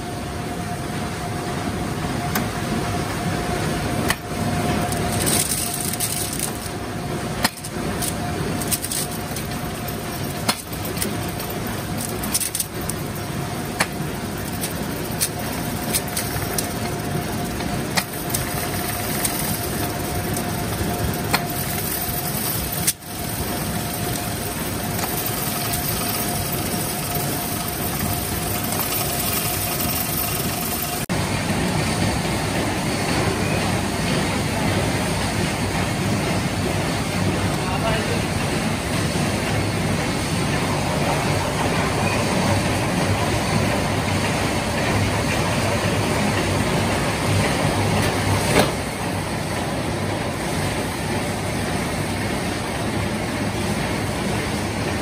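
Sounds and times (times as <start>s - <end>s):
spinner basket whirring: 0.6s - 55.0s.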